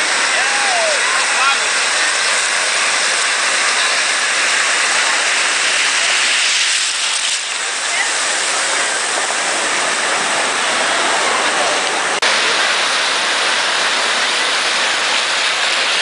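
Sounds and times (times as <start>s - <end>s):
small waves breaking: 0.0s - 16.0s.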